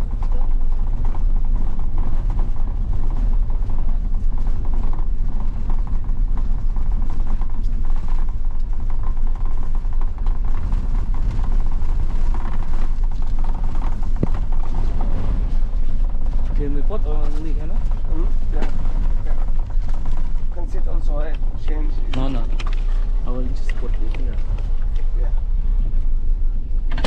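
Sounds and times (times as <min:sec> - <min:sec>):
small clicks and rattles: 0:00.0 - 0:25.2
road rumble inside car: 0:00.0 - 0:27.0.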